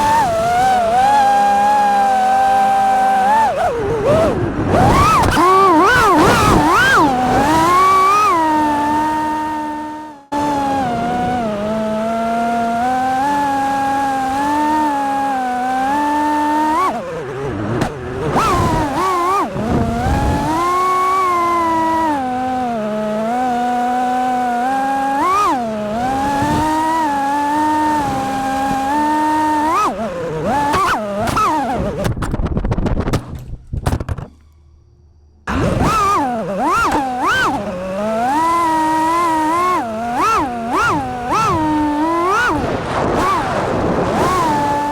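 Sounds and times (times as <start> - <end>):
drone motors whining: 0.0 - 32.7, 33.3 - 44.9.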